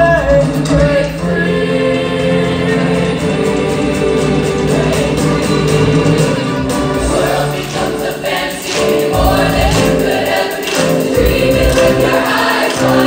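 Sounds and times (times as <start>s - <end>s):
band with a heavy beat: 0.0s - 13.0s
choir singing: 0.0s - 13.0s.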